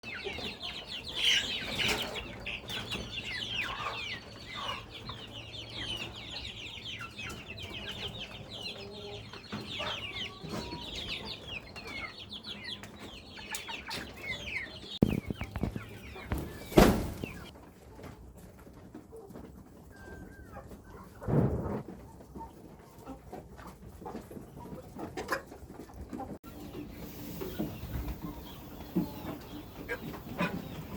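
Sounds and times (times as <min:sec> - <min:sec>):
chickens peeping: 0:00.0 - 0:30.9.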